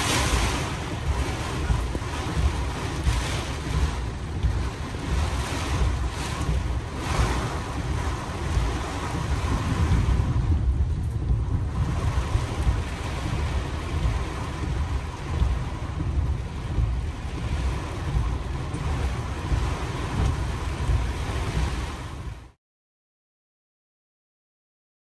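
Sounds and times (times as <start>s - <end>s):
deep uneven thunder rumble: 0.0s - 22.6s
gusting wind: 0.0s - 22.6s
heavy rain: 0.0s - 22.6s.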